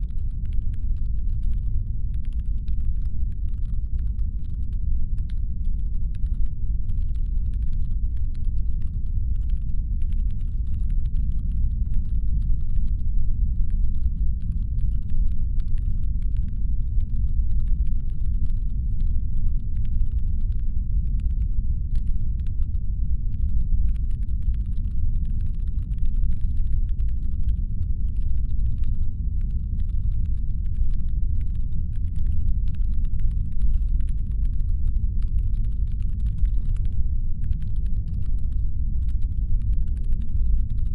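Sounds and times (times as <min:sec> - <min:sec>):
deep brown-noise rumble: 0:00.0 - 0:40.9.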